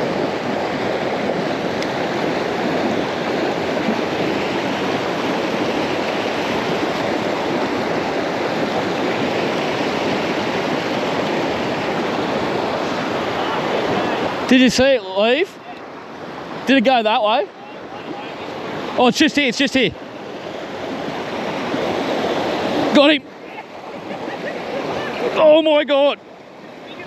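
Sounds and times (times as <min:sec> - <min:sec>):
river rapids rushing over rocks: 0:00.0 - 0:27.0.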